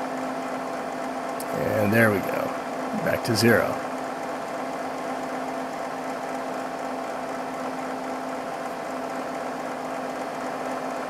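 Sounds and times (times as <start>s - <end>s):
computer fan whirring: 0.0s - 11.0s
constant hum: 0.8s - 11.0s.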